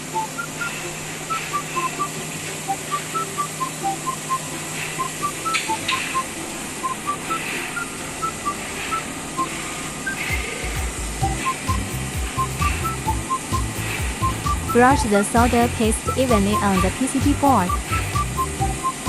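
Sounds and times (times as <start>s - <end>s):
high beeping tune: 0.0s - 19.0s
steady hum: 0.0s - 19.0s.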